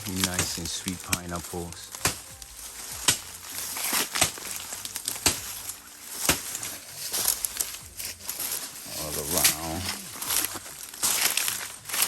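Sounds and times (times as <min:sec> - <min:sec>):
footsteps on dry leaves: 0:00.0 - 0:12.0.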